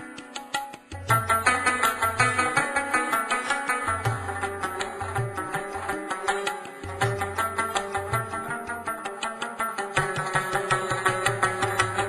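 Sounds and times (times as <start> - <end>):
fast plucked strings: 0.0 - 12.0.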